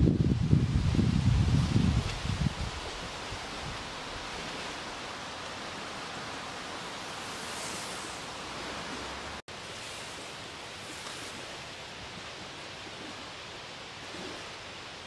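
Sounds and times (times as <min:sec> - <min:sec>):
rustling leaves: 0:00.0 - 0:15.0
wind gusts: 0:00.0 - 0:15.0
lake water lapping at shore: 0:01.8 - 0:15.0.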